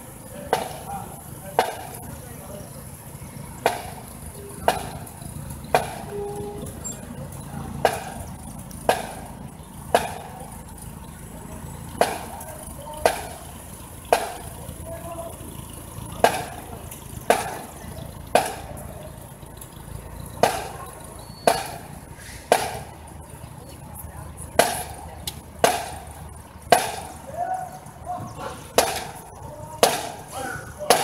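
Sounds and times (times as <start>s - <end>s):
marching drum beating: 0.0s - 2.3s, 3.0s - 10.7s, 11.5s - 15.4s, 16.0s - 19.2s, 20.4s - 31.0s
street rumble: 0.0s - 31.0s.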